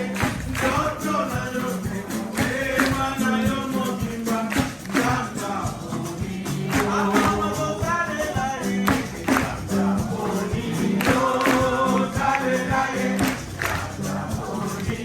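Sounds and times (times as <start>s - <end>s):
low bass notes: 0.0s - 3.9s, 4.9s - 15.0s
percussion playing steady beat: 0.0s - 15.0s
singing: 0.0s - 15.0s.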